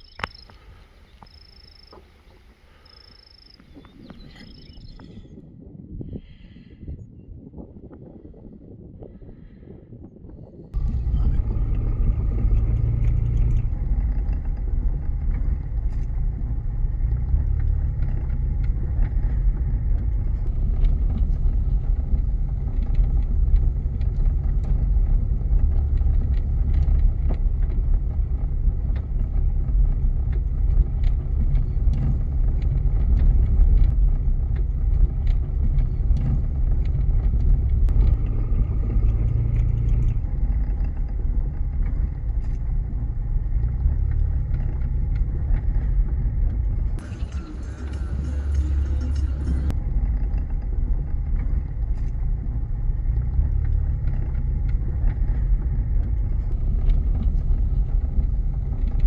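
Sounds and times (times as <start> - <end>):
small clicks and ticks: 0.0 - 5.2, 10.8 - 59.0
engine and road rumble: 0.0 - 59.0.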